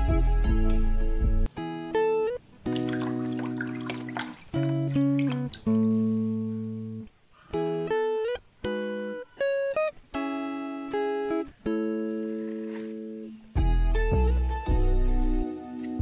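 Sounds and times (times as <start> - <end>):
guitar picking chords and notes: 0.0 - 16.0.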